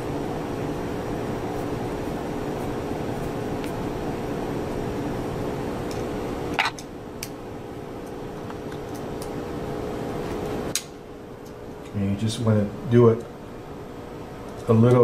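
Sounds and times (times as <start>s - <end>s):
equipment fans humming: 0.0s - 15.0s.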